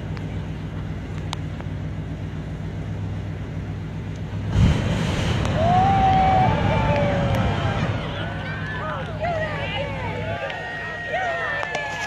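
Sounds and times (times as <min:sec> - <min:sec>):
pickup engine idling and revving: 0:00.0 - 0:12.0.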